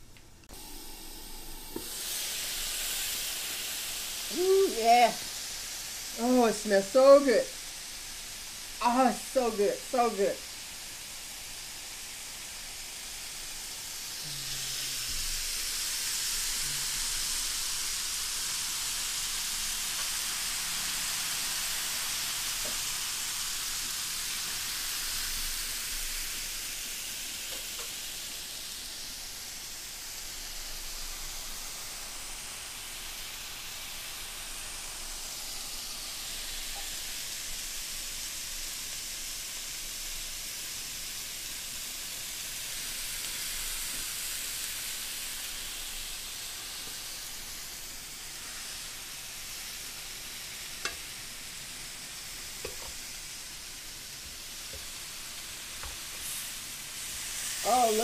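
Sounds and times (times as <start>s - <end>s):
meat sizzling on a grill: 0.0s - 58.0s.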